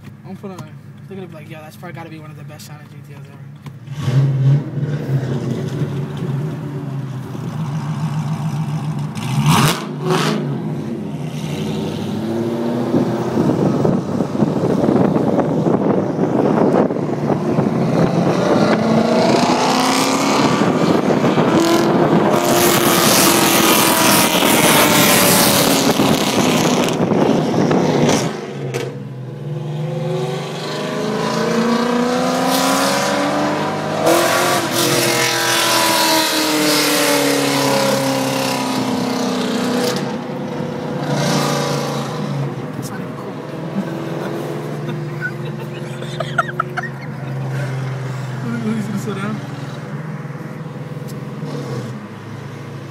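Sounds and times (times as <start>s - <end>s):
car engine revving under acceleration: 3.2s - 52.9s.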